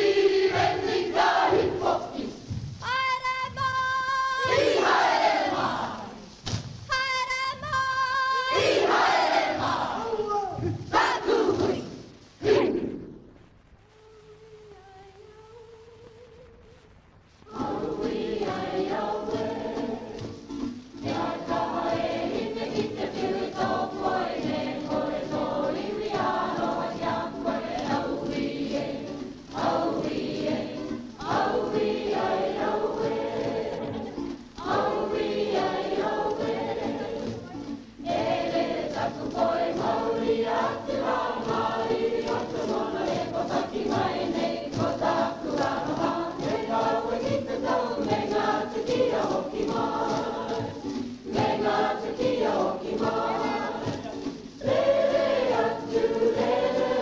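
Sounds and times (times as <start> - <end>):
choral singing: 0.0 - 6.4, 7.2 - 13.4, 17.5 - 57.0.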